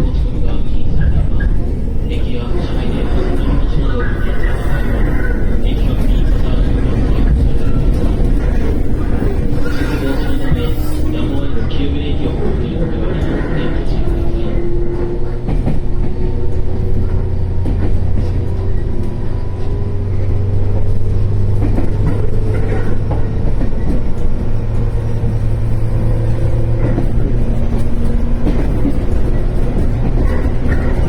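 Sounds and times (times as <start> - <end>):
electric train running: 0.2 - 31.0.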